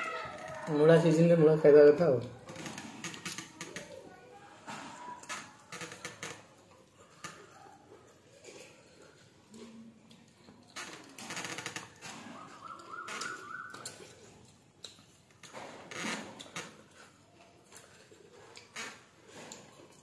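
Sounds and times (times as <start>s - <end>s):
chewing and slurping: 2.2s - 20.0s.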